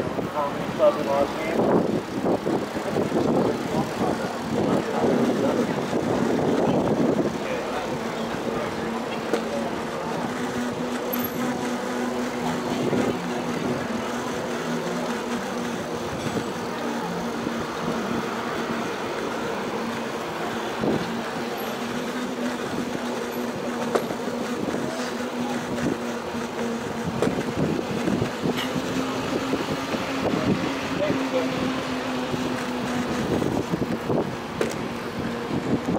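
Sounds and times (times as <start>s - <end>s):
bicycle rolling and wind noise: 0.0s - 35.9s.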